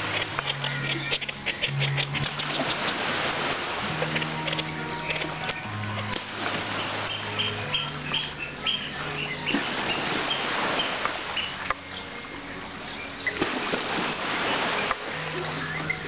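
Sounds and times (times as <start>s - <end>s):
birds chirping: 0.0s - 16.0s
soft background music: 0.0s - 16.0s.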